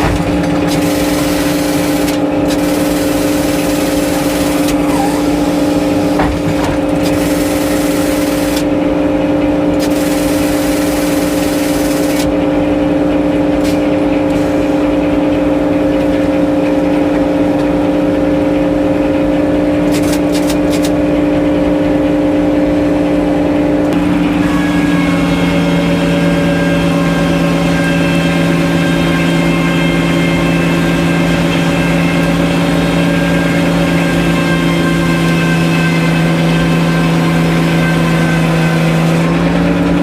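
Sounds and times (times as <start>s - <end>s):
circular sawmill engine hum: 0.0s - 40.0s.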